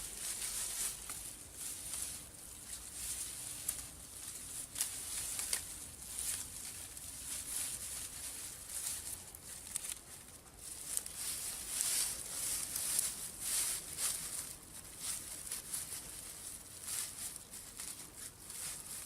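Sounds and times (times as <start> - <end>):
hands rustling and scraping: 0.0 - 19.0.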